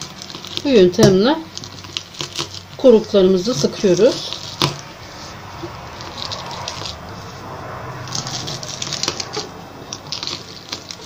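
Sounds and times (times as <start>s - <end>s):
grapes squashing and crunching: 0.0s - 11.0s.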